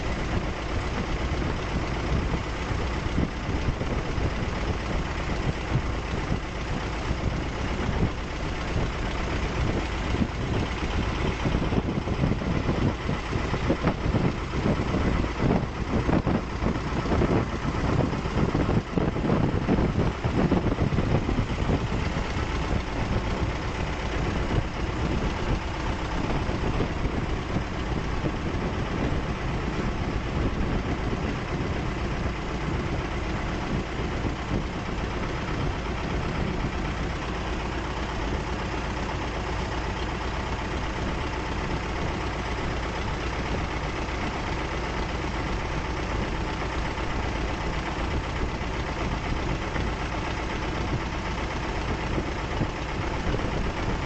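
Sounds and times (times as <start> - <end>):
motorboat engine running: 0.0 - 54.0.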